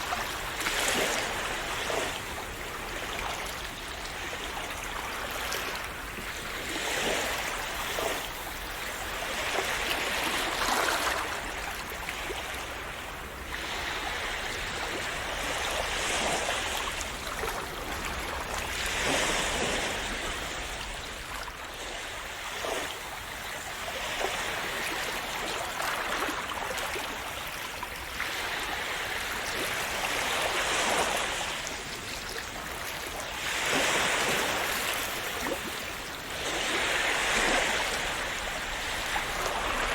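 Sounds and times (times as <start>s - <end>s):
sea waves splashing: 0.0s - 39.9s.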